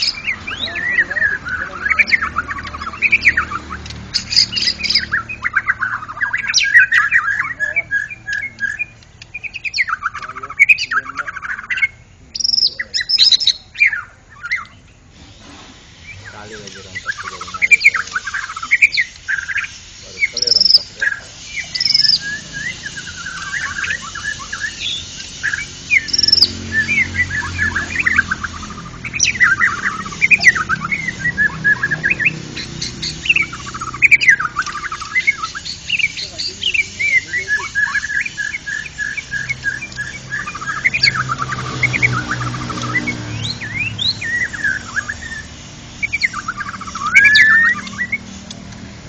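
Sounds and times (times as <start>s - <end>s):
bird singing whistles and trills: 0.0s - 15.1s, 15.9s - 48.6s.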